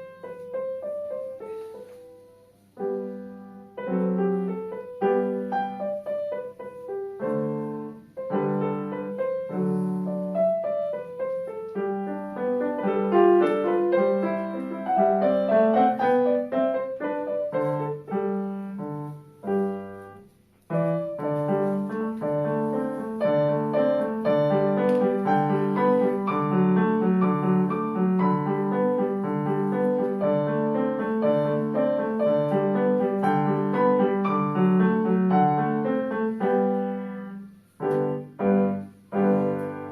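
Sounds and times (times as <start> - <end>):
solo piano piece: 0.0 - 39.9.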